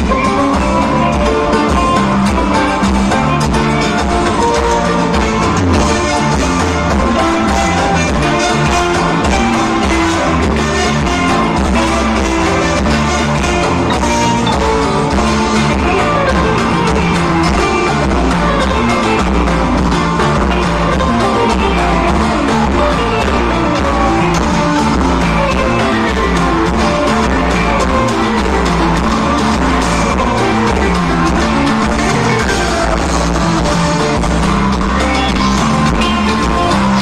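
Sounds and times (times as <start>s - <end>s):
live band music: 0.0s - 37.0s
person singing: 0.0s - 37.0s.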